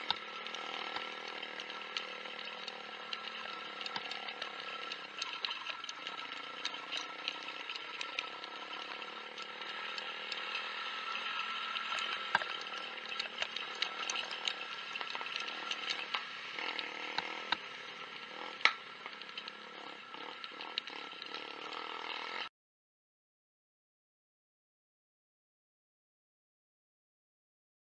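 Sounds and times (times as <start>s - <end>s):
motorcycle engine hum: 0.0s - 22.5s.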